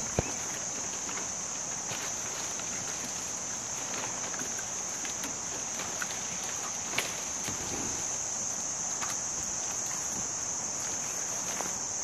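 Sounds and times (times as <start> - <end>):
dry palm fronds rustling: 0.0 - 12.0.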